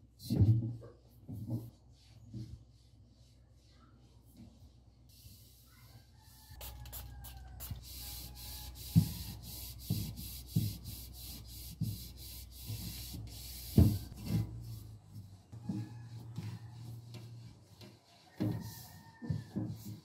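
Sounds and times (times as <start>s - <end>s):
cloth wiping glass and plastic: 0.3s - 20.0s.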